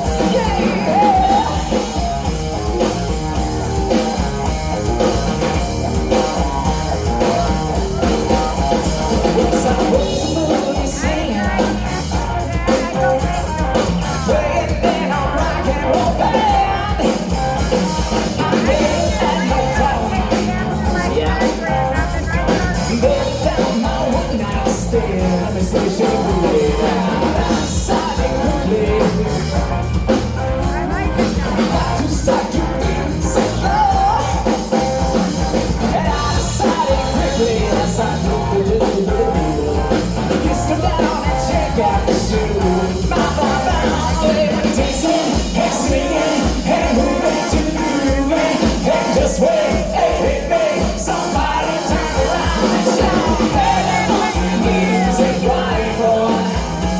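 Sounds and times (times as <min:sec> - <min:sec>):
lead voice singing: 0:00.0 - 0:56.9
rock band playing: 0:00.0 - 0:56.9.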